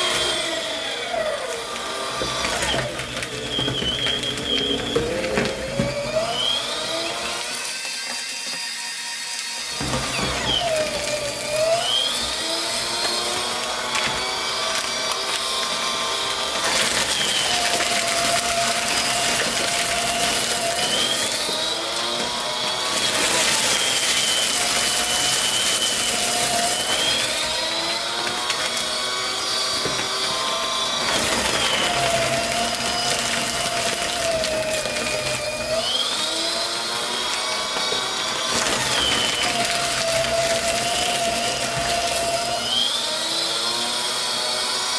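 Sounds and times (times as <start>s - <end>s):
paper being shredded: 0.0s - 44.9s
paper shredder motor whining: 0.0s - 44.9s.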